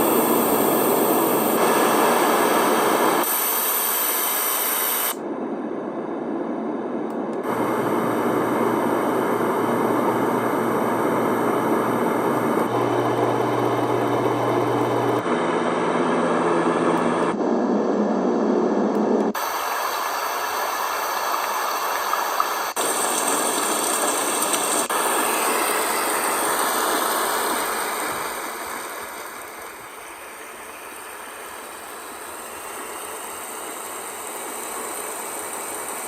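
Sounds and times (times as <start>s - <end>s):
white noise machine hiss: 0.0s - 5.3s, 7.4s - 15.2s, 19.3s - 36.0s.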